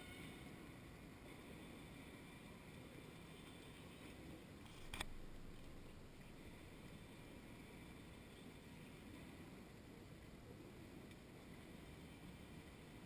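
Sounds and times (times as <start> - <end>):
faint low outdoor rumble: 0.0 - 13.0.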